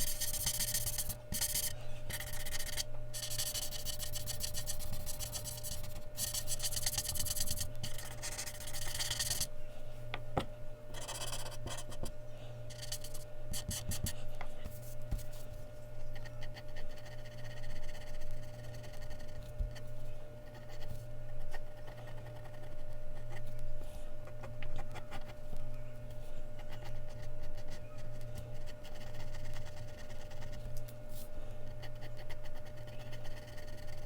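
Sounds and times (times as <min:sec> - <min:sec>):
pencil scratching on paper: 0:00.0 - 0:09.5, 0:11.0 - 0:12.1, 0:12.7 - 0:15.5, 0:16.1 - 0:23.5, 0:24.3 - 0:25.5, 0:26.6 - 0:30.7, 0:31.7 - 0:34.0
steady low hum: 0:00.0 - 0:34.0.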